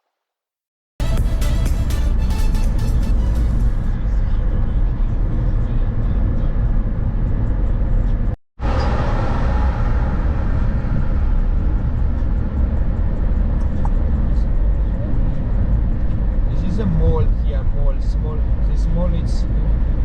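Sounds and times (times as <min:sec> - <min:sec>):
car road and engine noise: 0:01.0 - 0:20.0.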